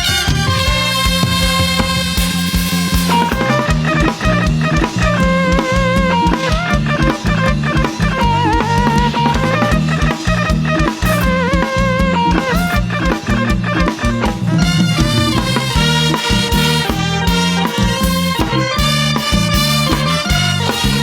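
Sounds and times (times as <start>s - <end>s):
brass band playing dance music: 0.0s - 21.0s.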